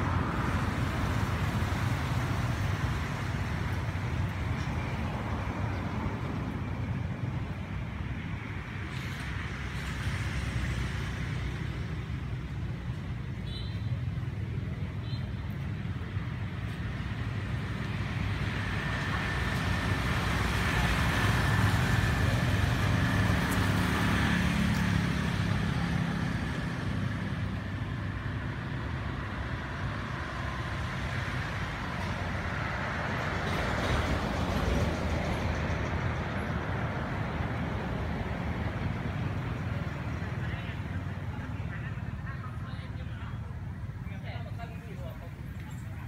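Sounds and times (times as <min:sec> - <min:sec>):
traffic engine rumble: 0:00.0 - 0:46.0.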